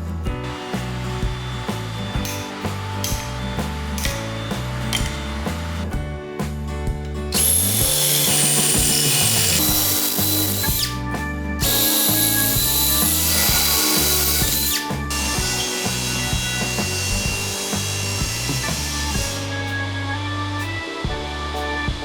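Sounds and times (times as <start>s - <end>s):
background music with bass line: 0.0s - 22.0s
power tool motor whining: 0.5s - 5.8s, 7.3s - 19.7s.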